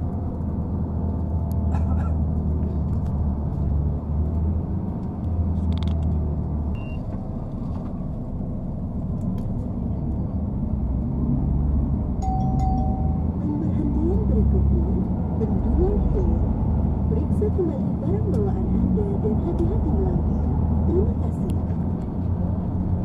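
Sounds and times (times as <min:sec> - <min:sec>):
bus engine rumble: 0:00.0 - 0:23.0.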